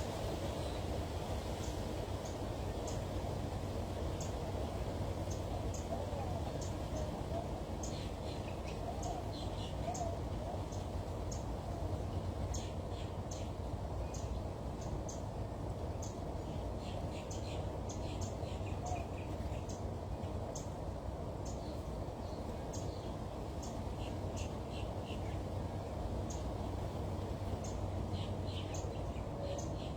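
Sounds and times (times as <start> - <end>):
low background noise: 0.0 - 29.9
small birds chirping: 4.1 - 15.3, 15.9 - 20.8, 21.4 - 25.5, 26.1 - 29.9.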